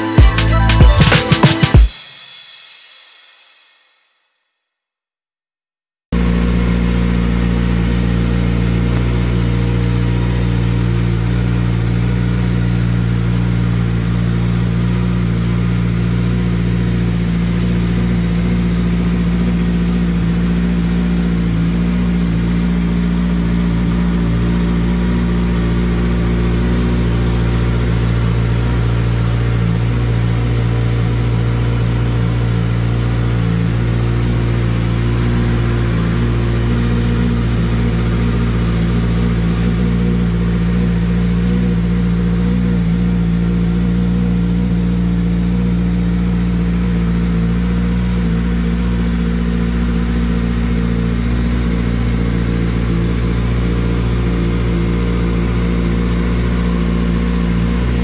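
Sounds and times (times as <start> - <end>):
motorcycle engine idling: 6.2 - 58.0.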